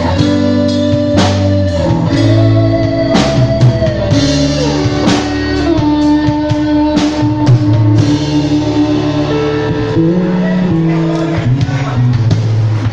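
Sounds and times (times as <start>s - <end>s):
drums: 0.0s - 12.9s
guitar: 0.0s - 12.9s.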